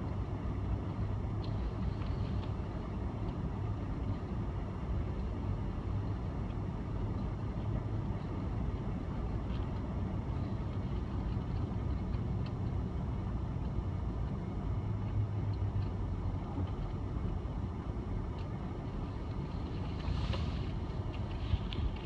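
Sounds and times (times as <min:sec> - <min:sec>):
vehicle road and engine rumble: 0:00.0 - 0:22.0.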